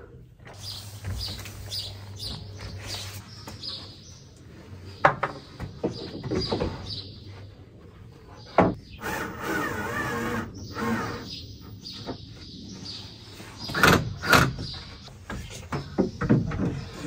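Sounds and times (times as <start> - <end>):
birds chirping: 0.4 - 17.0.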